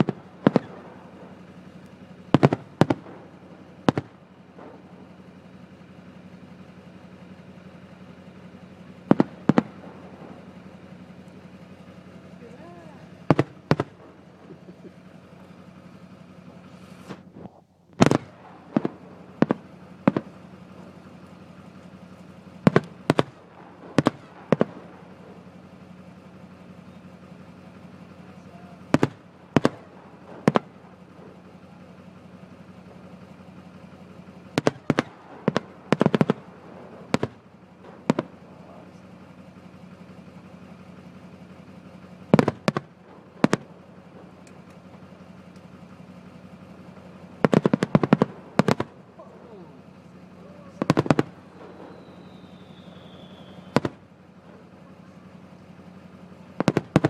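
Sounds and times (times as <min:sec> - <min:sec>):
fireworks bursting with sharp bangs: 0:00.0 - 0:57.0
steady low hum: 0:00.0 - 0:57.0.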